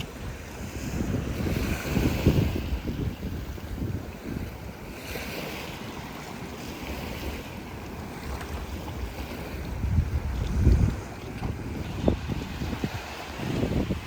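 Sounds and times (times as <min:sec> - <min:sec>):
sea surf rushing: 0:00.0 - 0:14.0
wind buffeting microphone: 0:00.0 - 0:14.0.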